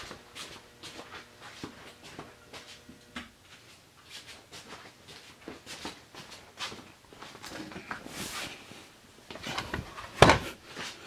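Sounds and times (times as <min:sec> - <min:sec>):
faint rustling and shuffling: 0:00.0 - 0:11.0.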